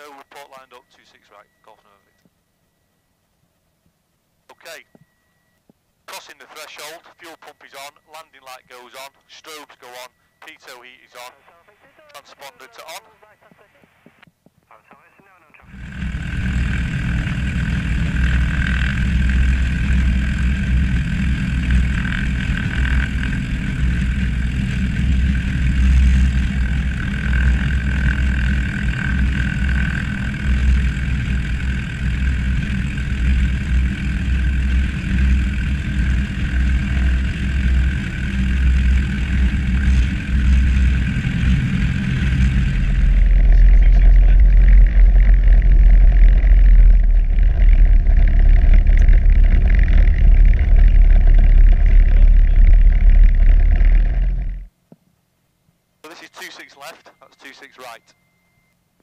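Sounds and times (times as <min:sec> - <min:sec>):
propeller plane engine drone: 0:00.0 - 0:13.7, 0:15.0 - 0:55.3, 0:56.0 - 0:59.0.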